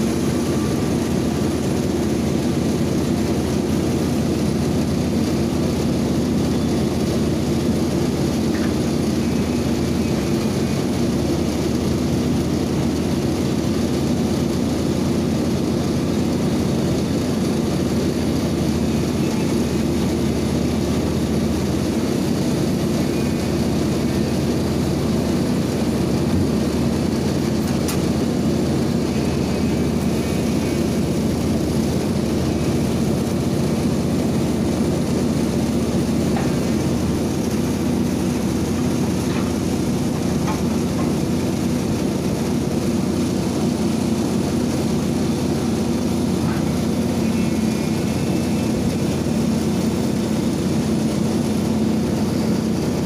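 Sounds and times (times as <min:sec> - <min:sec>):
excavator diesel engine droning: 0:00.0 - 0:53.0.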